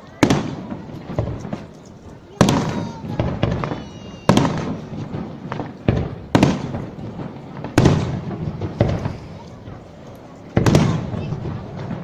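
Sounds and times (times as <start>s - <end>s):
firework bangs with echo: 0.0s - 12.0s.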